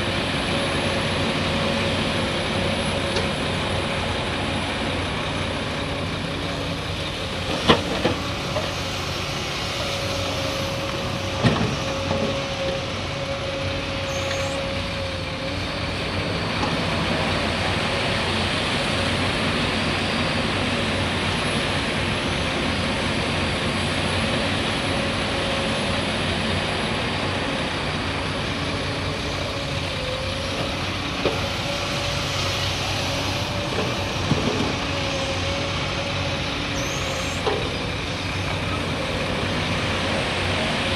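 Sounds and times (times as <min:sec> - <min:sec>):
excavator engine and hydraulics: 0:00.0 - 0:40.9.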